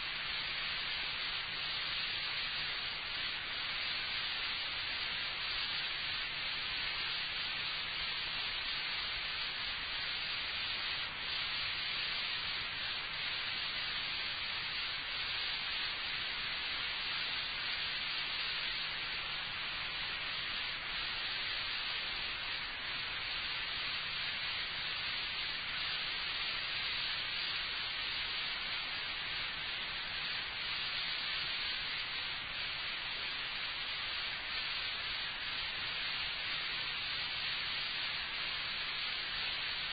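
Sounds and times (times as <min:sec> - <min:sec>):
analog recording hiss: 0:00.0 - 0:39.9.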